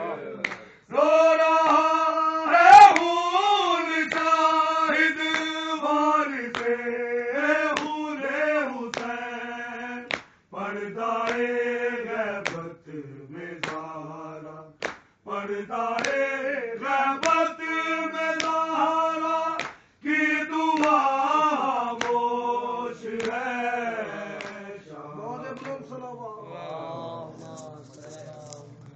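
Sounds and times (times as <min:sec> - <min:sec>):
men chanting a lament: 0:00.0 - 0:28.9.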